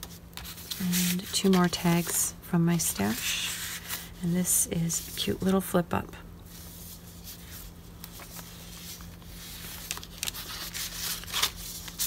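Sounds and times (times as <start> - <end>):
paper pages rustling: 0.0 - 4.2, 6.5 - 12.0.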